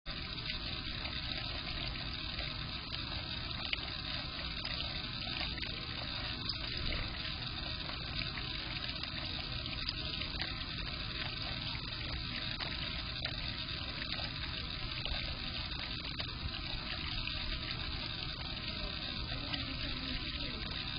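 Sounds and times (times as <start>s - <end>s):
fountain splashing into basin: 0.1s - 20.9s
water drip ticks: 0.1s - 20.9s.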